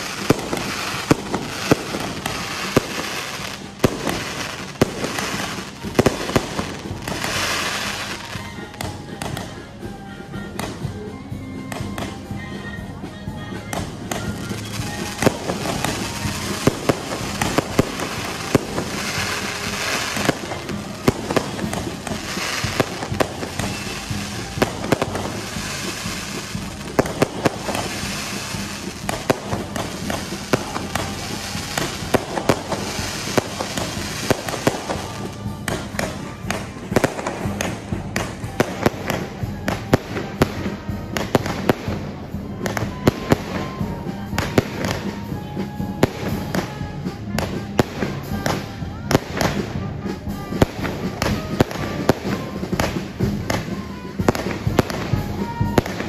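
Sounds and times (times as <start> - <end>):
fireworks shells hissing: 0.0 - 11.0, 13.7 - 56.0
fireworks bangs and crackles: 0.0 - 56.0.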